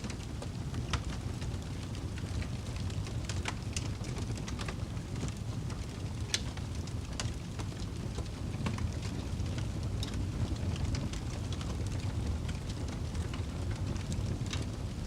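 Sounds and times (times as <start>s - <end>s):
burning wood crackling and popping: 0.0s - 15.0s
flames rumbling: 0.0s - 15.0s.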